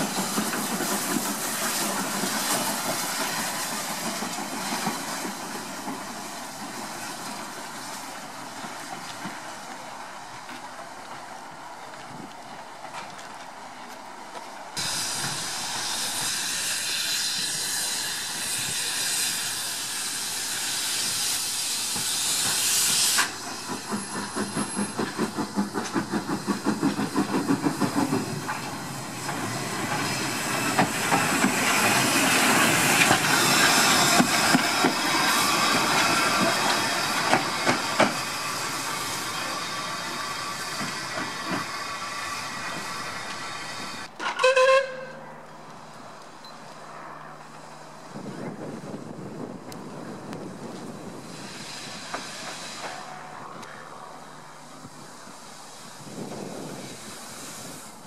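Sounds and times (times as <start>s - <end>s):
steam hissing: 0.0s - 10.3s, 14.8s - 44.6s, 47.7s - 58.0s
train clicking along track: 0.0s - 58.0s.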